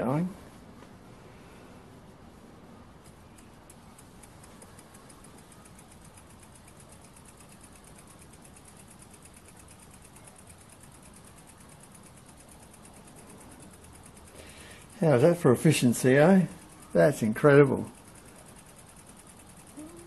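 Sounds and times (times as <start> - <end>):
small steam engine ticking: 3.0 - 20.0.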